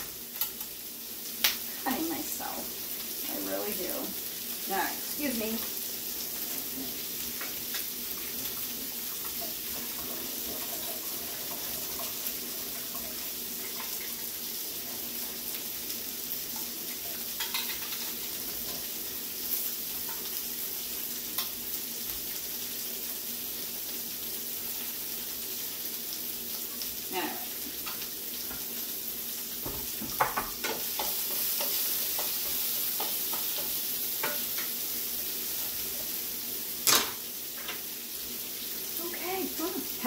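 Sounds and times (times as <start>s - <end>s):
peppers sizzling in a pan: 0.0s - 40.0s.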